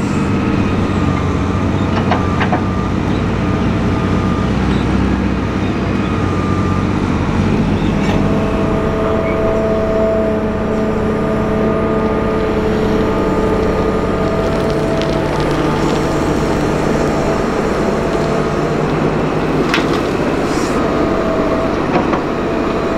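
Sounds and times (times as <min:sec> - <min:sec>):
excavator diesel engine running: 0:00.0 - 0:22.9
steady higher whine: 0:00.0 - 0:22.9.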